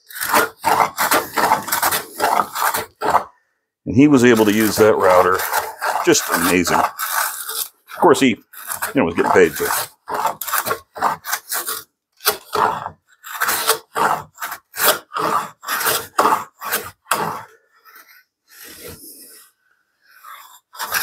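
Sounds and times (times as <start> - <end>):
hand plane shaving wood: 0.0 - 21.0.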